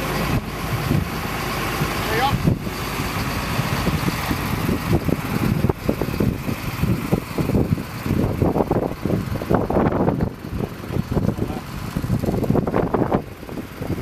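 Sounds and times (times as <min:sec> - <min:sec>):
engine idling: 0:00.0 - 0:14.0
wind on microphone: 0:00.0 - 0:14.0.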